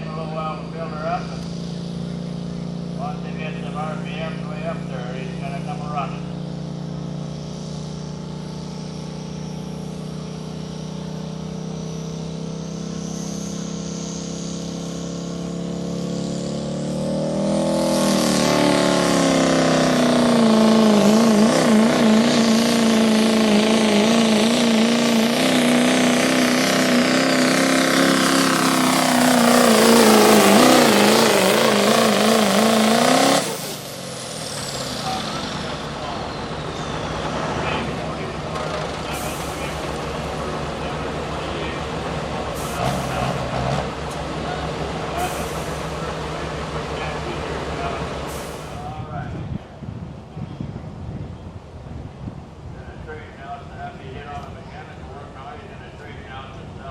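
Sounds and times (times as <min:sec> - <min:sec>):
vehicle engine revving under load: 0:00.0 - 0:56.9.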